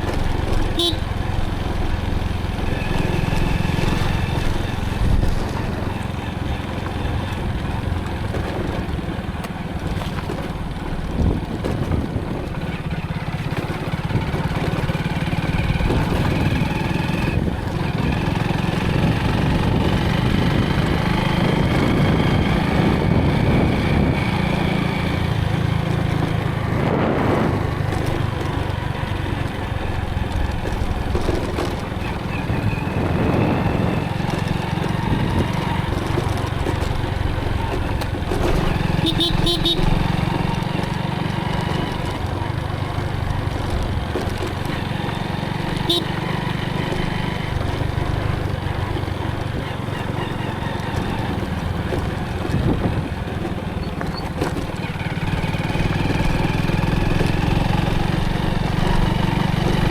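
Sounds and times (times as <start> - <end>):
motorcycle engine running: 0.0 - 59.9
road noise: 0.0 - 59.9.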